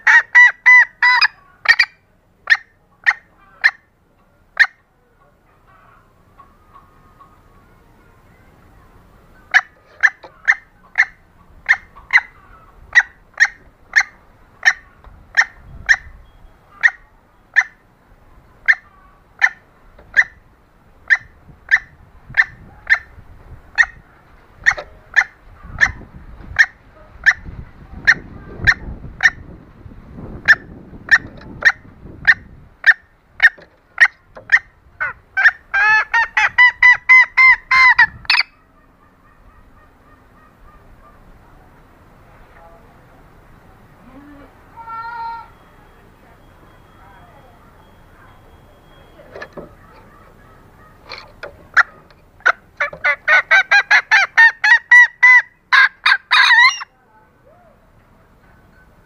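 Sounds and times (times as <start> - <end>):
hen cackling: 0.0 - 29.6, 30.2 - 41.4, 43.9 - 57.8
hen clucking: 0.0 - 29.6, 30.2 - 41.4, 44.0 - 56.9.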